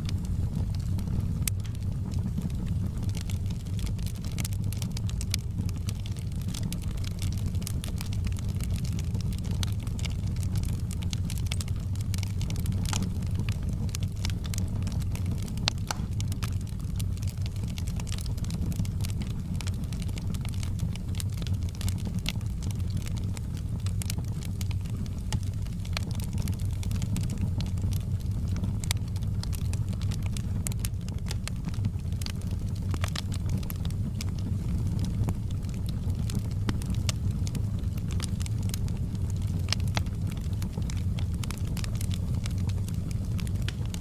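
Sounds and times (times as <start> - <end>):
fire crackling and popping: 0.0 - 44.0
steady low rumble: 0.0 - 44.0.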